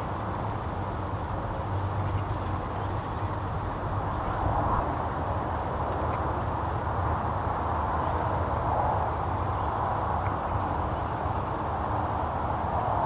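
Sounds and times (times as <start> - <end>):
hiss-like rumble: 0.1 - 13.0.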